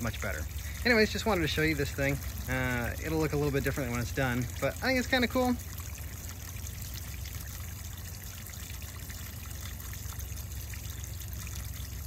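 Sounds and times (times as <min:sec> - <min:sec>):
water trickling onto rocks: 0:00.0 - 0:12.0.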